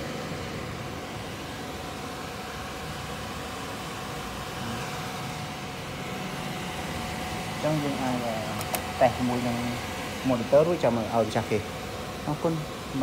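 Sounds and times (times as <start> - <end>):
computer fans whirring: 0.0 - 13.0
faint constant whine: 0.0 - 13.0.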